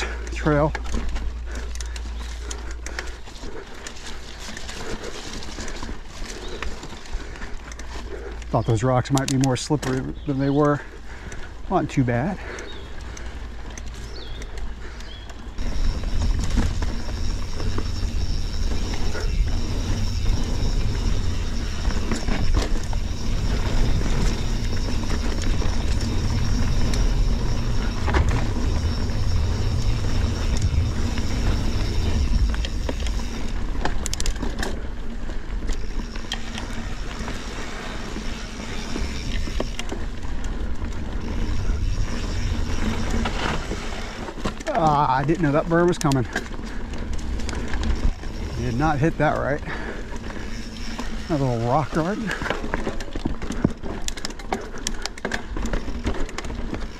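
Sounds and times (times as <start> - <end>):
bike clicking and rattling: 0.0 - 56.9
bike tyre noise on dirt: 0.0 - 56.9.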